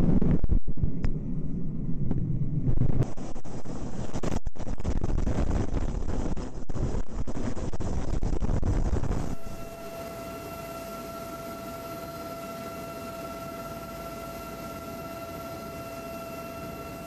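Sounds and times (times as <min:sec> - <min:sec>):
helicopter cabin whine and rush: 0:00.0 - 0:17.0.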